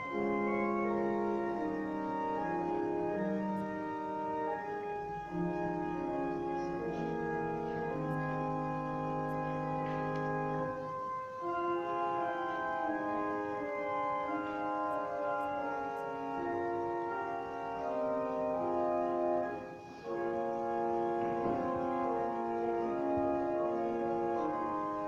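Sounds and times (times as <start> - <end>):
deep organ pedal note: 0.0 - 25.0
pipe organ chords: 0.0 - 25.0.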